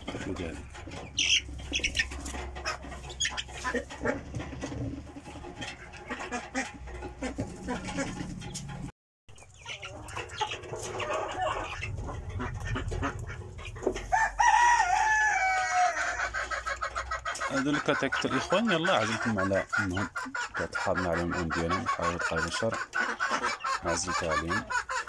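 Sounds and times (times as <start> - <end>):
chicks chirping and clucking: 0.0 - 25.0.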